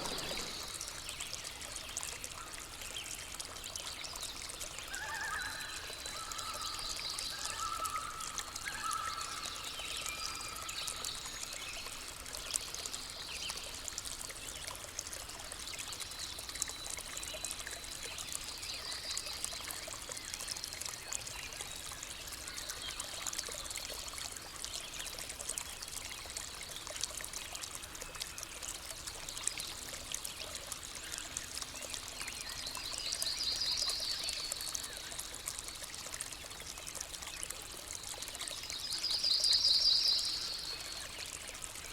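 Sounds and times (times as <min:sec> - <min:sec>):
stream water trickling: 0:00.0 - 0:41.9.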